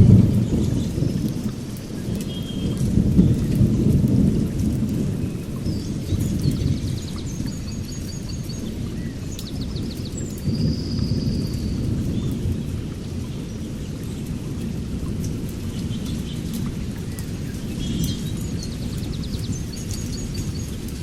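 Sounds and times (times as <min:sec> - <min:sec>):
raindrops ticking: 0:00.0 - 0:21.0
thunder rumbling: 0:00.0 - 0:21.0.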